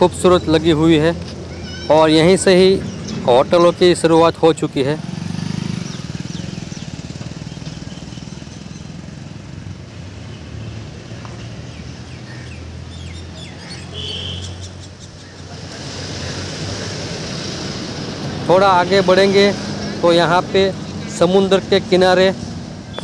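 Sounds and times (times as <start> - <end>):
vehicle engine hum and road noise: 0.0 - 23.0.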